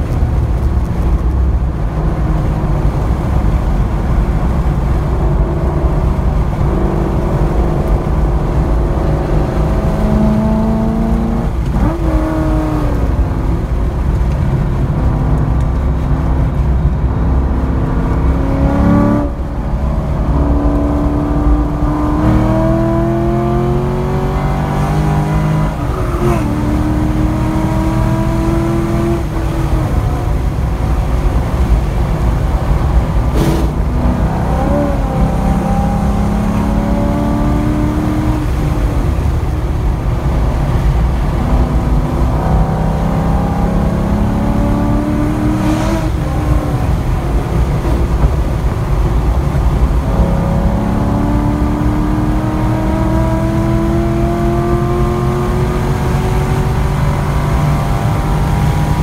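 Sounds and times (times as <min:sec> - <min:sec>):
car engine accelerating: 0:00.0 - 0:59.0
wind and road rumble: 0:00.0 - 0:59.0.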